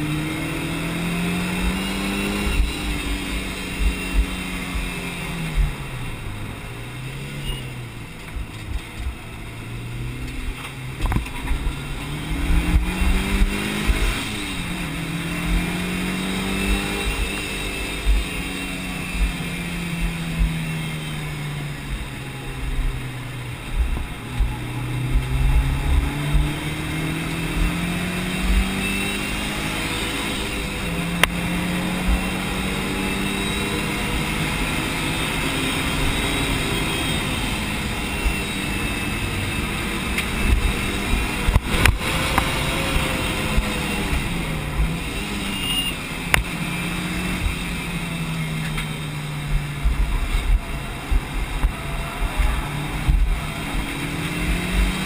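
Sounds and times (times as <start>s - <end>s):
car engine revving: 0.0s - 55.0s
road and wind rumble: 0.0s - 55.0s.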